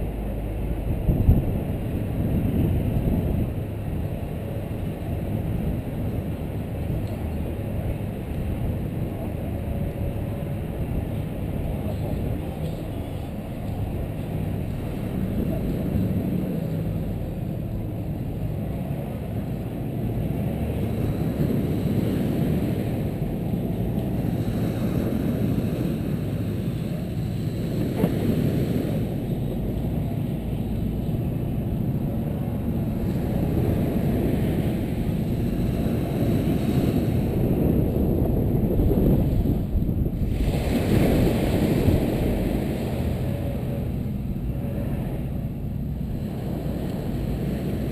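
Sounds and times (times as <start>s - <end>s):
car driving on sand: 0.0s - 47.9s
wind rumble on microphone: 0.0s - 47.9s.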